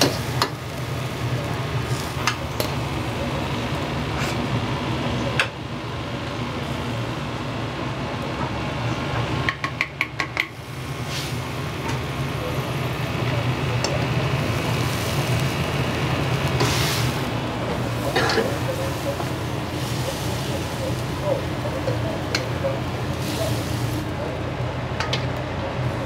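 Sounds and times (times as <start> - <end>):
burner and extractor hum: 0.0 - 26.0.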